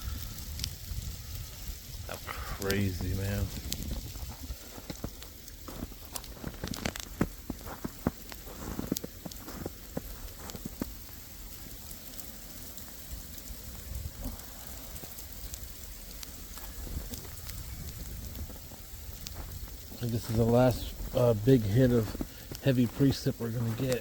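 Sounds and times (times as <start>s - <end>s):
ice pellets ticking: 0.0s - 24.0s
sleet pattering: 0.0s - 24.0s.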